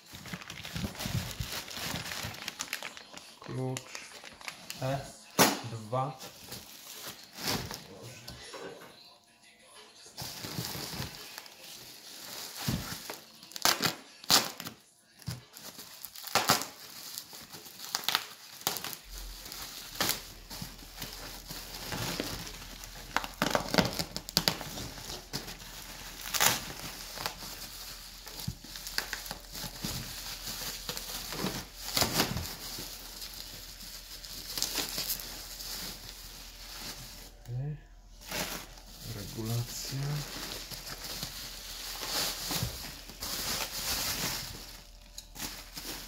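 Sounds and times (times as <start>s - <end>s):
bubble wrap crinkling: 0.0s - 8.3s, 10.2s - 46.0s
plastic bags rustling: 0.0s - 8.5s, 10.1s - 46.0s.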